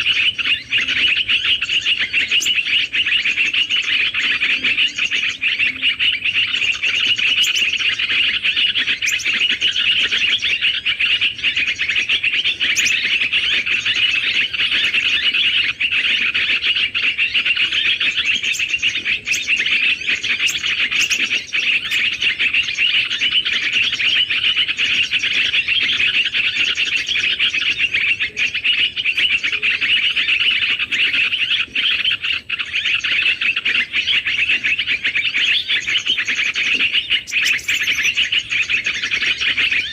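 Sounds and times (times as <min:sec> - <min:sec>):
small birds twittering: 0:00.0 - 0:39.9.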